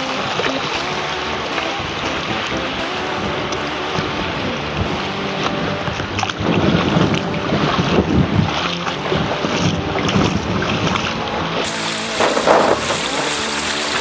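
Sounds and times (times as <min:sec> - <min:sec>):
water splashing over rocks: 0:00.0 - 0:14.0
wind on microphone: 0:00.0 - 0:14.0.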